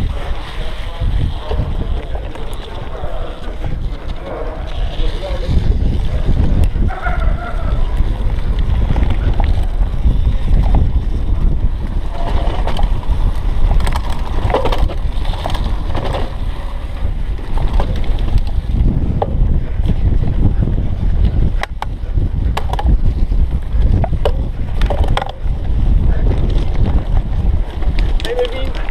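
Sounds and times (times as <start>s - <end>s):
bike clicking and rattling: 0.0s - 28.9s
bike tyres rumbling on dirt: 0.0s - 28.9s
wind buffeting microphone: 0.0s - 28.9s.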